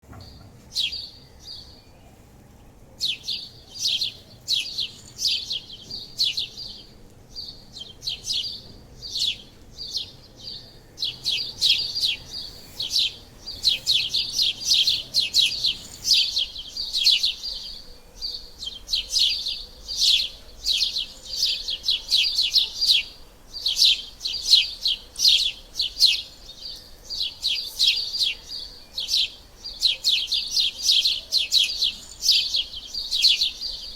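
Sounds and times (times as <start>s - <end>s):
sparrows chirping: 0.0s - 33.9s.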